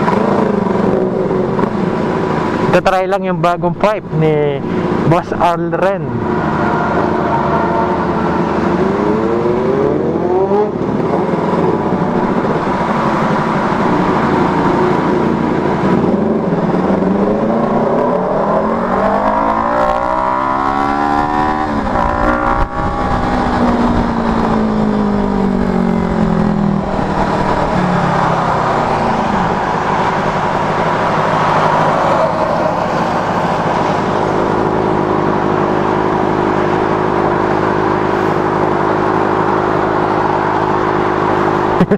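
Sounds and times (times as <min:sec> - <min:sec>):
motorcycle engine accelerating: 0:00.0 - 0:02.7, 0:06.1 - 0:41.9
wind and road noise: 0:00.0 - 0:41.9.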